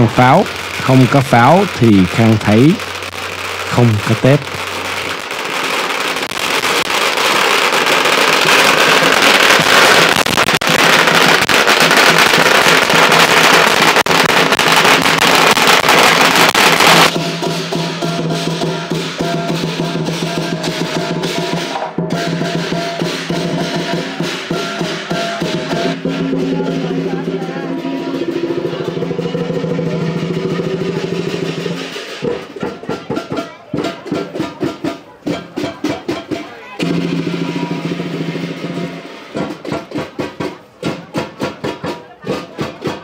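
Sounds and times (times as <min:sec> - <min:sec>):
firecrackers crackling: 0:00.0 - 0:43.0
music with drums: 0:00.0 - 0:43.0.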